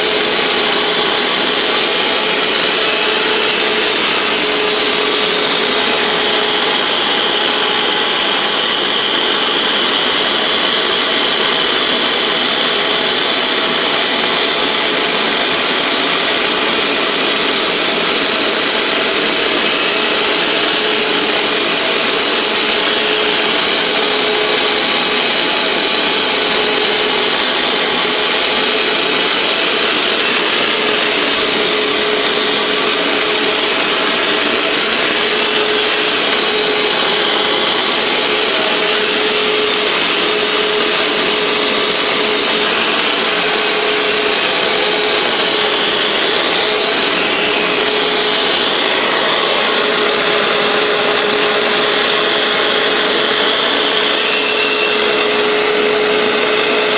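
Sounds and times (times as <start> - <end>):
carpet cleaner suction rush: 0.0 - 56.9
motor whine: 0.0 - 56.9.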